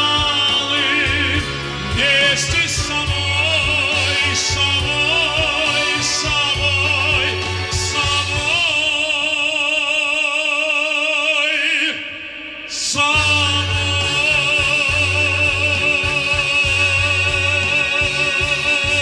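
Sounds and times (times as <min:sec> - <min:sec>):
band accompaniment with pulsing bass: 0:00.0 - 0:09.9, 0:12.3 - 0:19.0
operatic man singing: 0:00.0 - 0:19.0.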